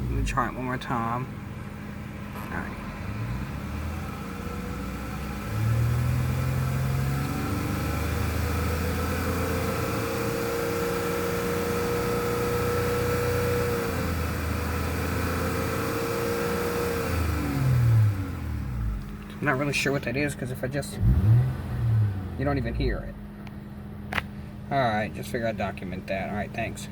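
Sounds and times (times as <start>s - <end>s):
car engine revving: 0.0s - 24.5s.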